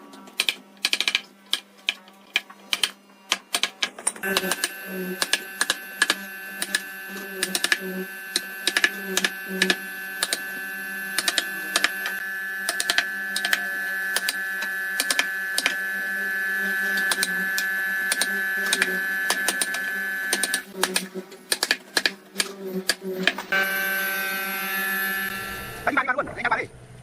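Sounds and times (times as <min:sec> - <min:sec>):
motor humming: 0:04.2 - 0:26.0.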